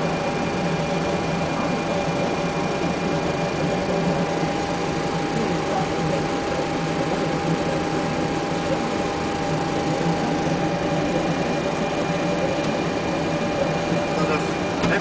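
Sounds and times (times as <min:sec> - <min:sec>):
cockpit systems rushing hum: 0:00.0 - 0:15.0
constant mid-pitched tone: 0:00.0 - 0:15.0.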